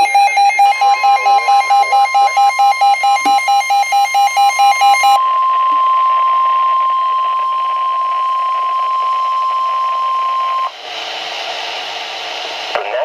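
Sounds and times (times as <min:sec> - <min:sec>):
steady high alarm tone from speaker: 0:00.0 - 0:12.0.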